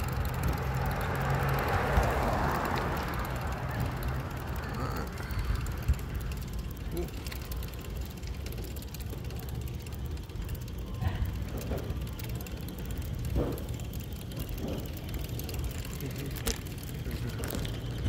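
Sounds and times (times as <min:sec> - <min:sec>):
wind and road noise: 0:00.0 - 0:09.9, 0:10.5 - 0:18.0
bicycle freewheel ticking: 0:00.0 - 0:18.0.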